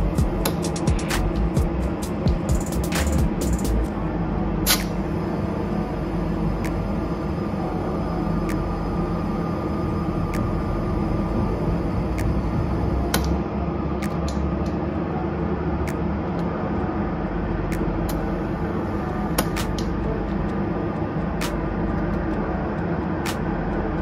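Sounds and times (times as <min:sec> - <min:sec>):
machinery droning: 0:00.0 - 0:24.0.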